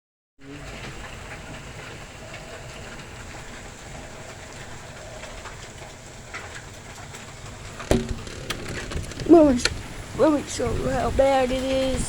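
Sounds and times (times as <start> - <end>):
rain: 0.4 - 12.0.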